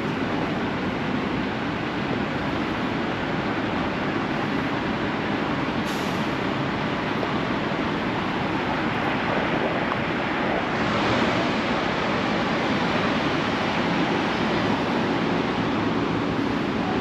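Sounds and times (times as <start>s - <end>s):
city traffic noise: 0.0s - 17.0s.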